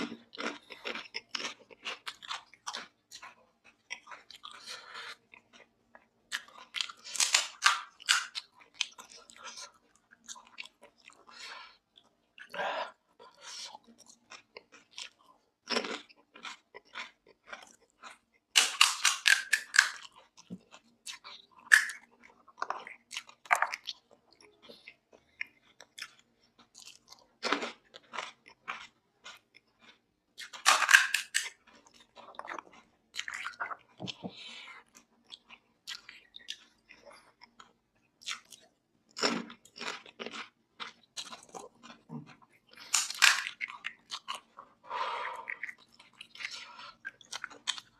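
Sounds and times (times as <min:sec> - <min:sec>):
crisp food crunching: 0:00.0 - 0:11.3, 0:13.6 - 0:24.4, 0:25.2 - 0:34.2, 0:34.8 - 0:44.6, 0:45.4 - 0:47.9
chewing: 0:00.0 - 0:47.9.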